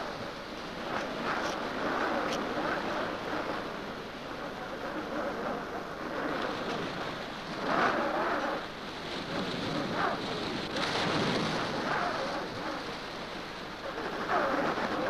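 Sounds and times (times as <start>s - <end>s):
sea noise: 0.0s - 15.0s
stormy wind: 0.0s - 15.0s.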